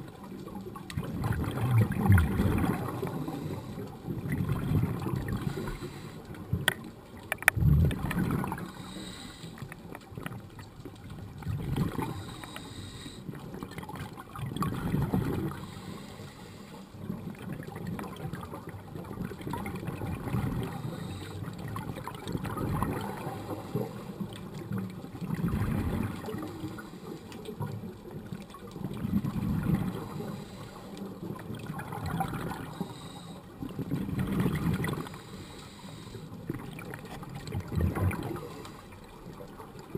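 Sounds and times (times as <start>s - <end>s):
scuba regulator bubbles underwater: 0.0s - 39.9s.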